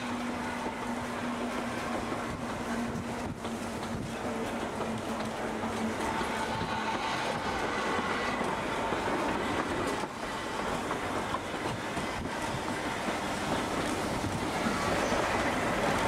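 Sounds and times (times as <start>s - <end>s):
tram rolling on rails: 0.0s - 16.0s.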